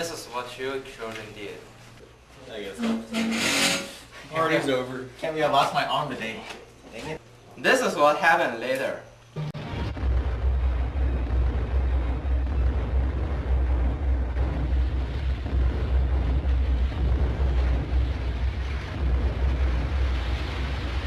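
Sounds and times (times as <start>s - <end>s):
low rumble with rough hiss: 4.0s - 21.0s.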